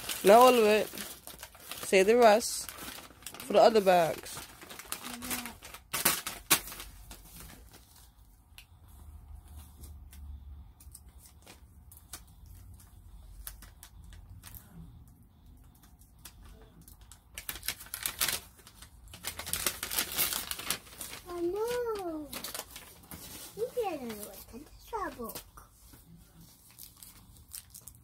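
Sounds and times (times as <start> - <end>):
candy wrappers clicking and crinkling: 0.0 - 8.8, 10.8 - 26.0, 26.6 - 28.0.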